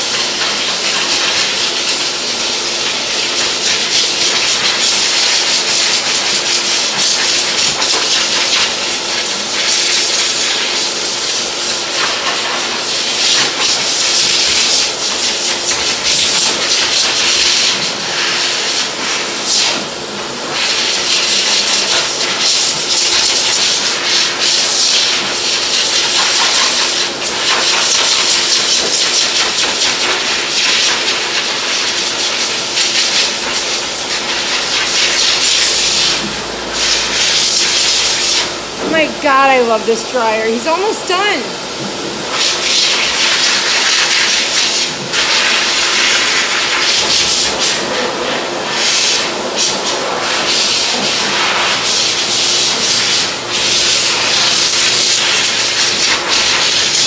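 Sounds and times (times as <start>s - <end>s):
hose dryer blowing air: 0.0s - 57.0s.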